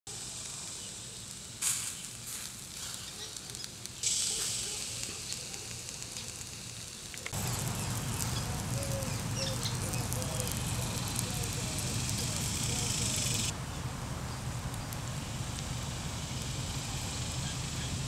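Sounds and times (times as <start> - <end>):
meat sizzling on a grill: 0.1 - 13.6, 14.2 - 18.0.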